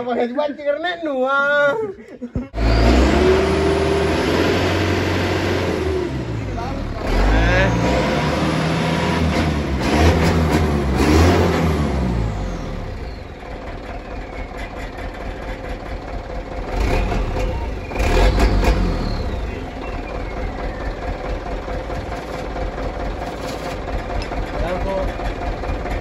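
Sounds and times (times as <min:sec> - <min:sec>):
diesel truck engine idling and revving: 0:02.5 - 0:26.0.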